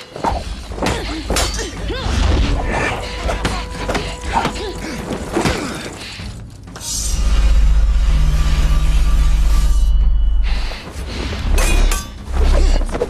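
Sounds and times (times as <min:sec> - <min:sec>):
low rumbling film score: 0:00.0 - 0:13.0.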